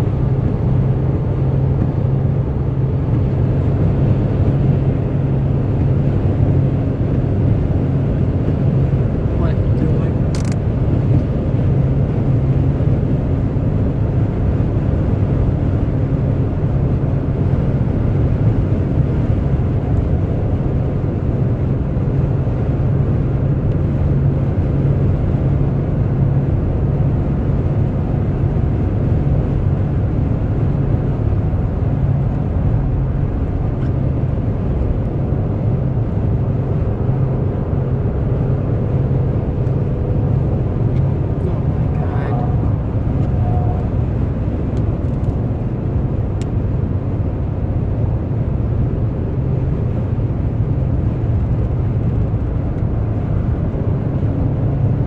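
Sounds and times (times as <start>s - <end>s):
car tyres and engine rumble: 0.0s - 55.0s.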